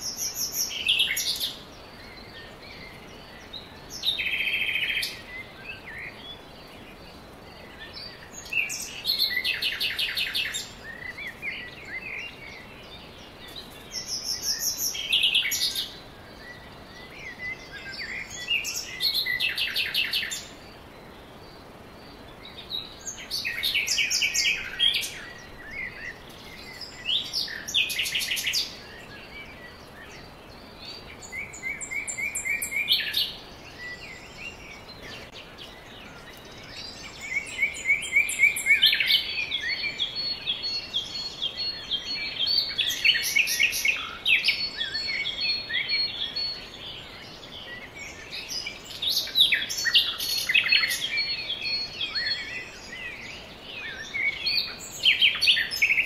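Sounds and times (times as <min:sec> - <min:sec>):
birds chirping and trilling: 0:00.0 - 0:56.0
faint outdoor hiss: 0:00.0 - 0:56.0.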